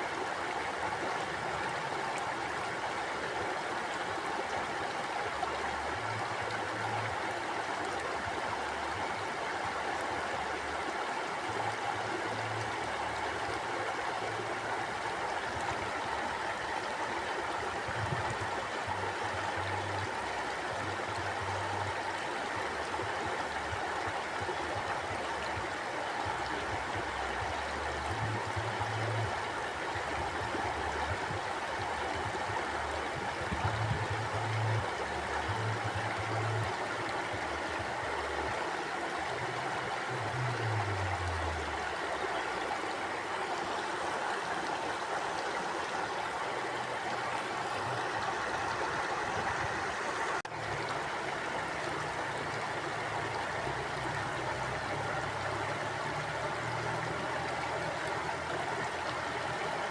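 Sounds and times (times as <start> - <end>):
low rumble of river: 0.0 - 59.9
river water rushing: 0.0 - 59.9.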